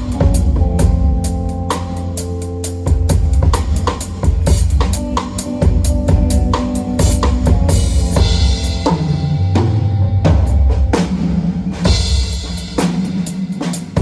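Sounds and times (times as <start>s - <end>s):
sustained bass notes: 0.0s - 12.0s
drum kit groove: 0.0s - 14.0s.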